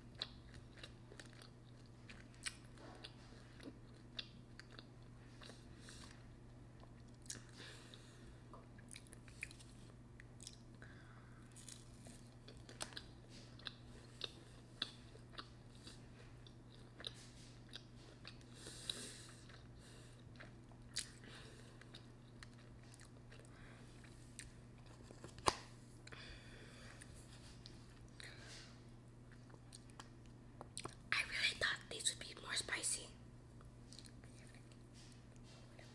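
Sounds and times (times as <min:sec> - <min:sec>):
person chewing noodles: 0:00.0 - 0:31.0, 0:33.6 - 0:35.9
steady low hum: 0:00.0 - 0:35.9.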